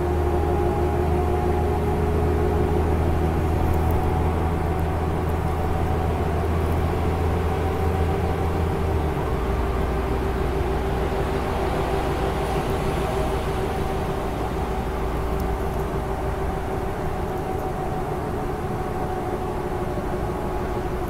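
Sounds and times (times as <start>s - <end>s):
car cabin highway drone: 0.0s - 21.0s
faint steady whine: 0.0s - 21.0s.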